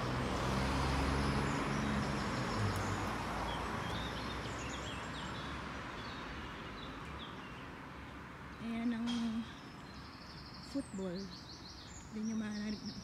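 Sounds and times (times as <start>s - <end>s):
road traffic noise: 0.0s - 13.0s
small birds chirping: 0.0s - 13.0s.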